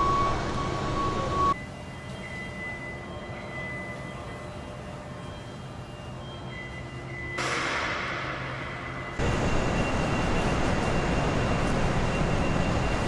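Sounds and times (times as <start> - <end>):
machinery hiss with whining tones: 0.0 - 13.0.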